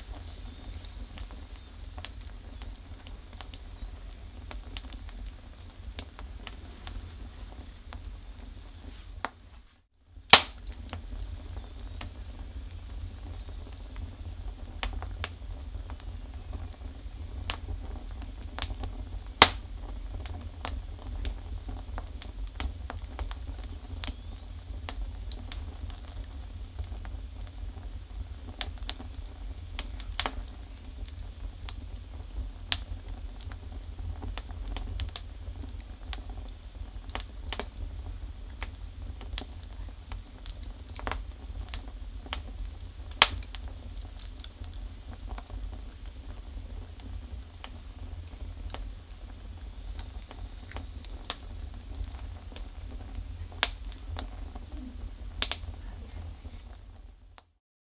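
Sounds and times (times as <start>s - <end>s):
fire low rumble: 0.0s - 57.6s
firewood crackling and popping: 0.0s - 57.6s.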